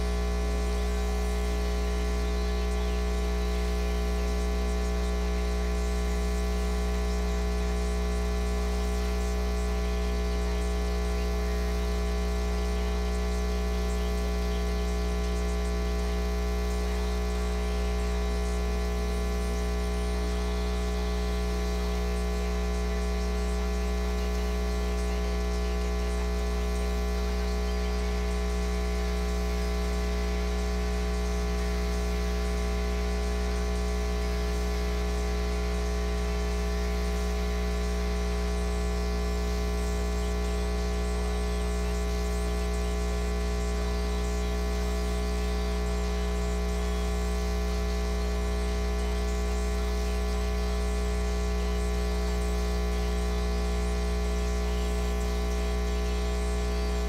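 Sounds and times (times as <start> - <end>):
electrical mains hum: 0.0 - 57.0
static hiss: 0.0 - 57.0.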